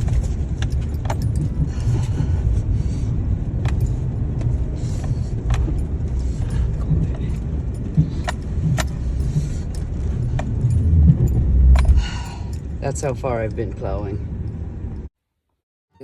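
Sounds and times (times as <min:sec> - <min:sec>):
light clicks and rattles: 0:00.0 - 0:15.1
car road rumble: 0:00.0 - 0:15.2.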